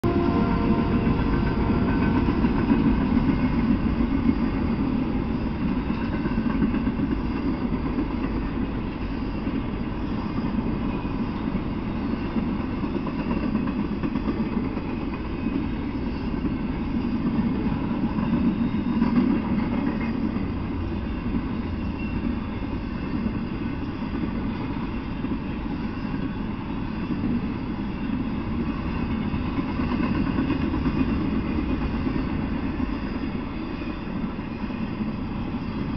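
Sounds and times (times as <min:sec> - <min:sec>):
freight train rolling past: 0:00.0 - 0:35.9.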